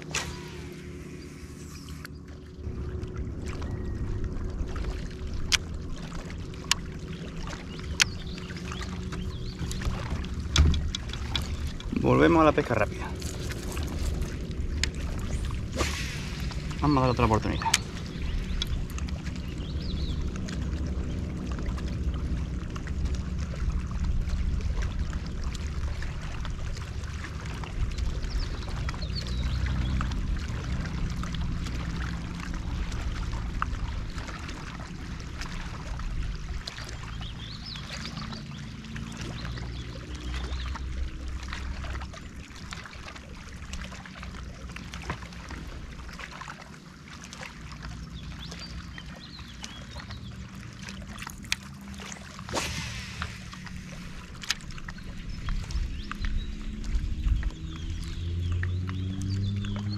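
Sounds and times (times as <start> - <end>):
steady low rumble: 0.0 - 59.8
water lapping against boat hull: 0.0 - 59.9.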